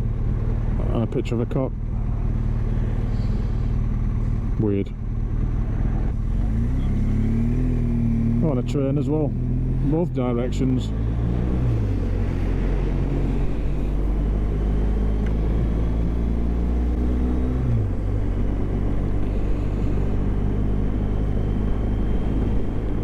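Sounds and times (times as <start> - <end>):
motorcycle engine cruising: 0.0 - 23.0
road noise: 0.0 - 23.0.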